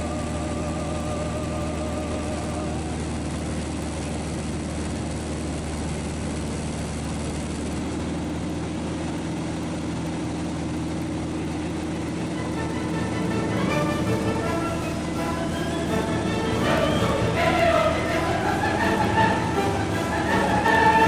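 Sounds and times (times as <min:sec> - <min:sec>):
propeller airplane engine drone: 0:00.0 - 0:21.0.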